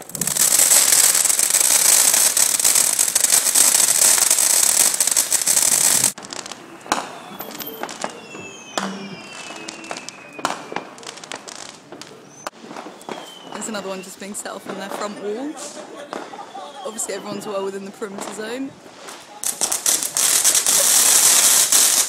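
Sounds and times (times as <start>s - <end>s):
falling whistling fireworks: 0.0s - 22.0s
fireworks bangs and pops: 0.0s - 22.0s
fireworks crackling: 0.0s - 22.0s.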